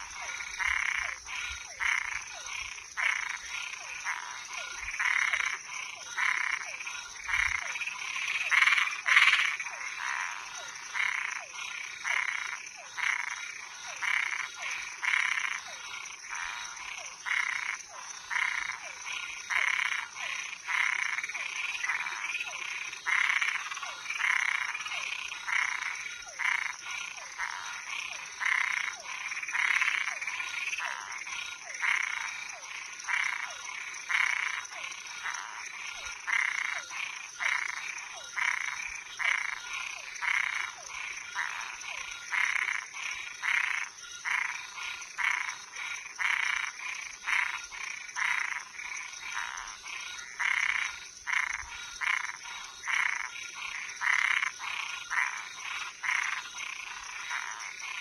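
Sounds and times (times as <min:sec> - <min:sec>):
frogs rasping calls: 0:00.0 - 0:58.0.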